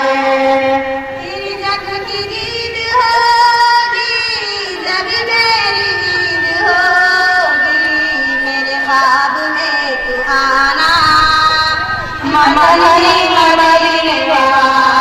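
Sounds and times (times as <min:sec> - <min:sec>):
female voices singing through pa: 0:00.0 - 0:15.0.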